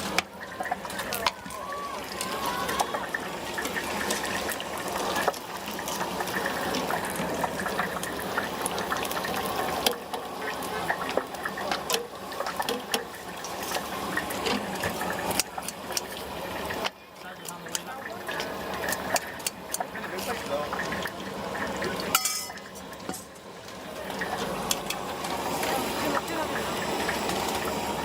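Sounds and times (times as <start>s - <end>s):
deep-frying sizzle with pops: 0.0s - 28.0s.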